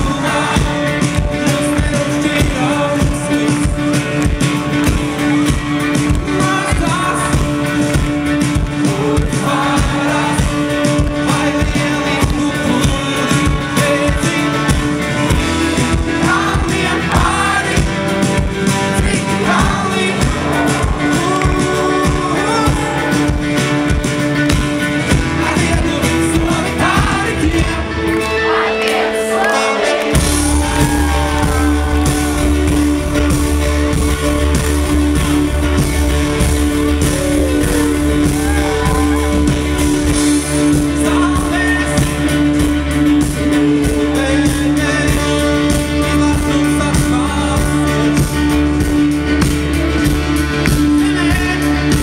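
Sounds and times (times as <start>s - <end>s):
male lead vocal: 0.0s - 34.4s, 36.8s - 49.1s, 49.8s - 52.0s
acoustic guitar: 0.0s - 52.0s
bass guitar: 0.0s - 52.0s
drums: 0.0s - 52.0s.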